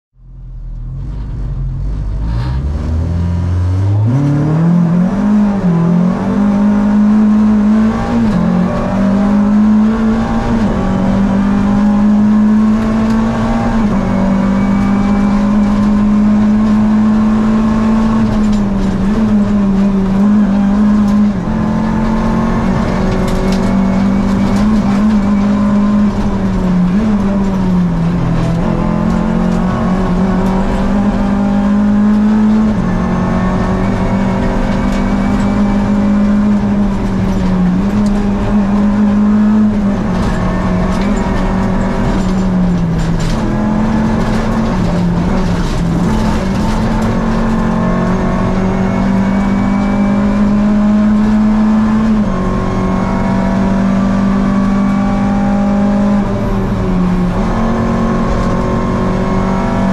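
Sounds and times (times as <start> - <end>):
rally car engine revving: 0.2 - 59.9.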